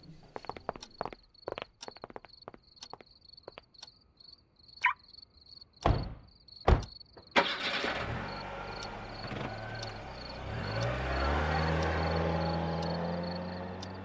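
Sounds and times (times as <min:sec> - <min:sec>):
crickets chirping: 0:00.5 - 0:14.0.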